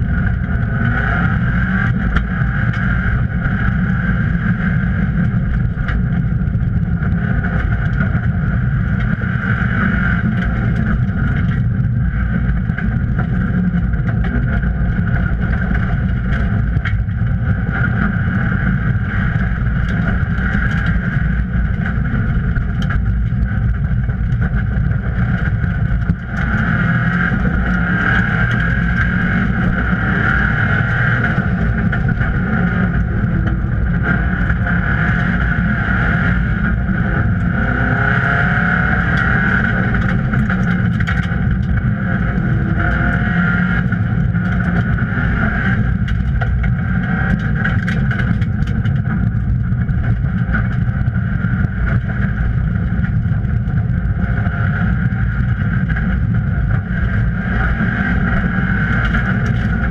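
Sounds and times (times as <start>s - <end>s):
rally car engine running hard: 0.0s - 59.9s
tyre and road noise: 0.0s - 59.9s.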